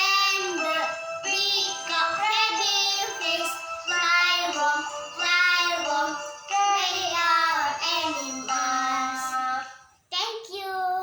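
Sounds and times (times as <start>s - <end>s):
girl singing: 0.0s - 11.0s.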